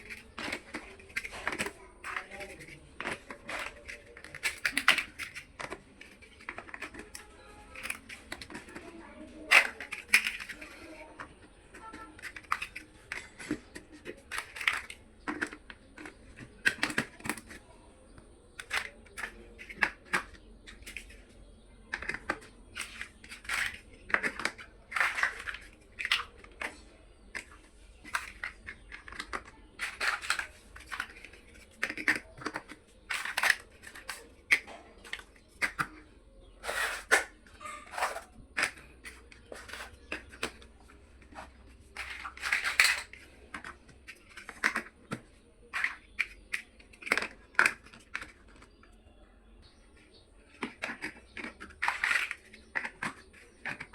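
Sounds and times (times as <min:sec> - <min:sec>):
plastic bricks clicking: 0:00.0 - 0:53.9.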